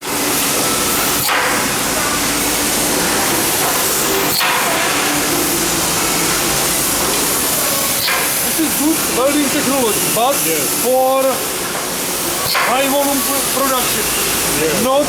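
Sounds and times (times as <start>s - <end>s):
steady loud hiss: 0.0s - 15.0s.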